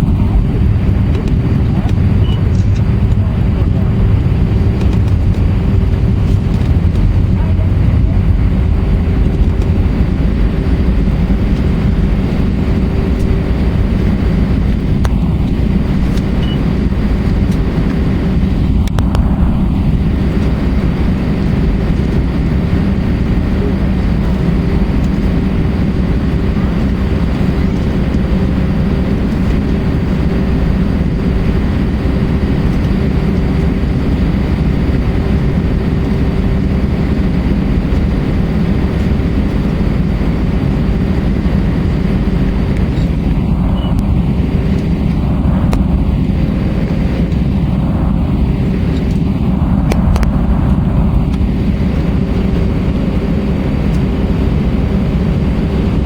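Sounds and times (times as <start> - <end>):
constant cabin hum: 0.0 - 56.0
jet engines roaring: 0.0 - 56.0.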